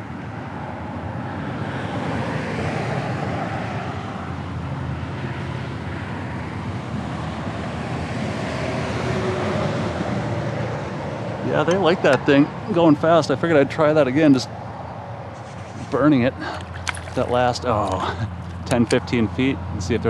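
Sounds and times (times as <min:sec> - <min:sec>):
highway traffic rushing: 0:00.0 - 0:20.0.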